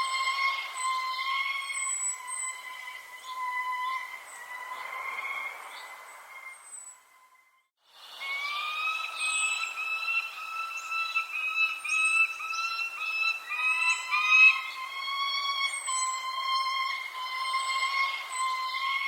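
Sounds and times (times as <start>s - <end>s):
birds whistling: 0.0s - 7.2s, 8.1s - 19.0s.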